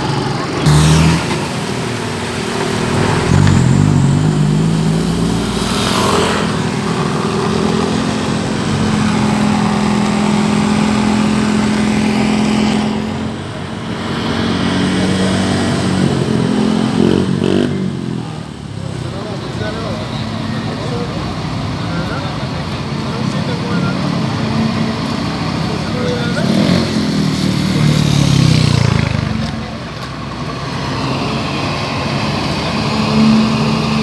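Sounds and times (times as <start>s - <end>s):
vehicle engines running: 0.0s - 34.0s.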